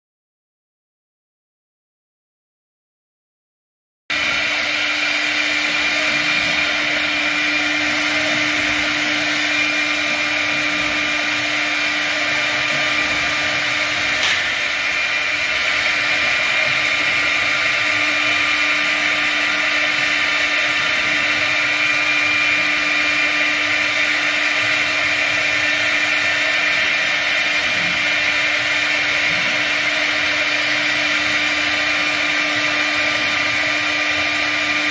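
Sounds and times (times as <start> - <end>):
machine motor whine: 4.1 - 34.9.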